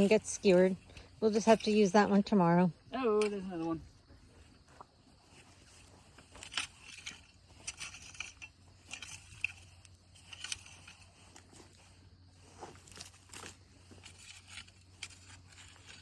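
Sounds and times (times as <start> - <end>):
garden fork digging soil: 0.0 - 3.8, 5.4 - 16.0.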